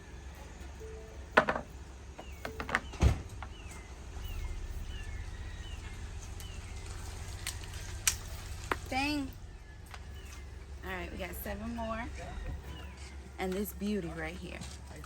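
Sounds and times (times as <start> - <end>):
bird chirping: 0.0 - 14.3.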